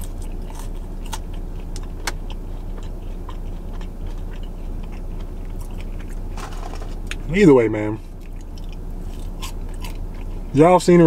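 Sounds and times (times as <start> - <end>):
car cabin hum: 0.0 - 11.0
chewing fries: 0.0 - 11.0.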